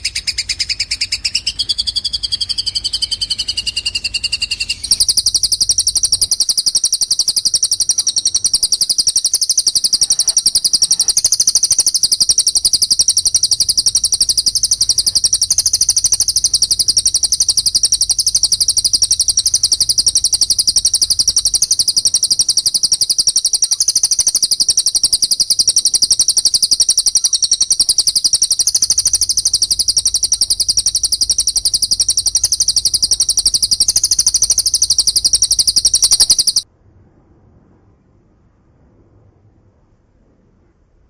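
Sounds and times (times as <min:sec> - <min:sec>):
songbird chattering: 0:00.0 - 0:36.6.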